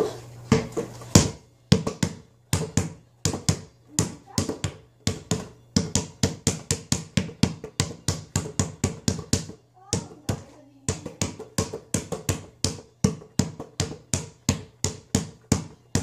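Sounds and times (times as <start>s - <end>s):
basketball bouncing on floor: 0.5s - 16.0s.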